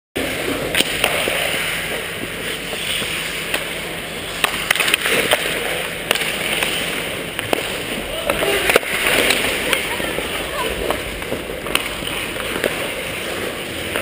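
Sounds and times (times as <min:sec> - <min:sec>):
skate blades scraping ice: 0:00.2 - 0:14.0
hockey sticks and puck clicking: 0:00.4 - 0:14.0.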